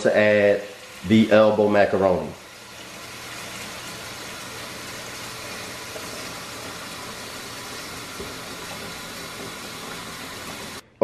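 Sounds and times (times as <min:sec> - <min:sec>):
faucet running into pot: 0:00.0 - 0:10.8.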